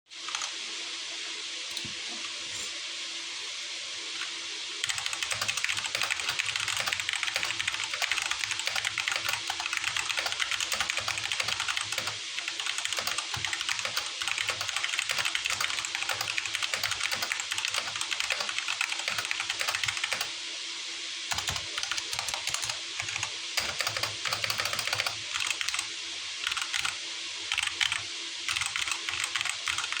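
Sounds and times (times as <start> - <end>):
faint hum and hiss: 0.1 - 30.0
mechanical keyboard typing: 4.8 - 20.3, 21.3 - 30.0.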